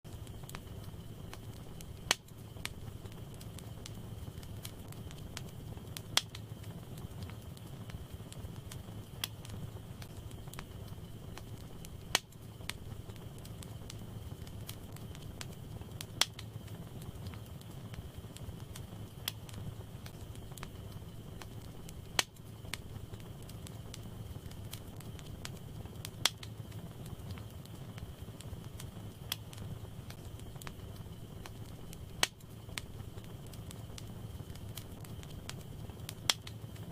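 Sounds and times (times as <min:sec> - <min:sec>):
burning logs popping: 0:00.1 - 0:36.9
low rush of flame: 0:00.1 - 0:36.9.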